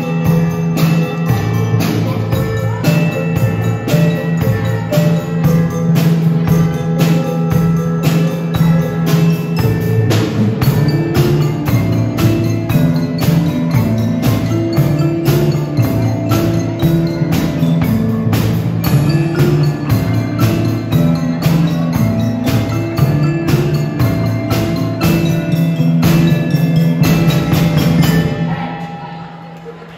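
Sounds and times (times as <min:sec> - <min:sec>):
marimbas played with mallets: 0:00.0 - 0:29.9.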